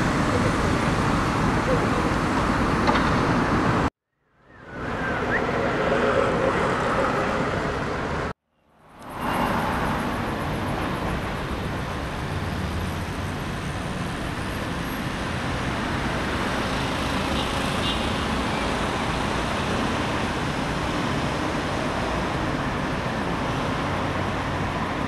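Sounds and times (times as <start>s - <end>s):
cars passing: 4.5s - 25.0s.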